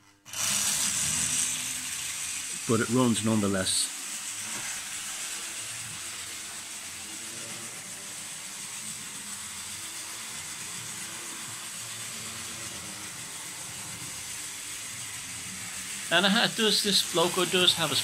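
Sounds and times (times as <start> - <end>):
model locomotive motor running: 0.0 - 18.0.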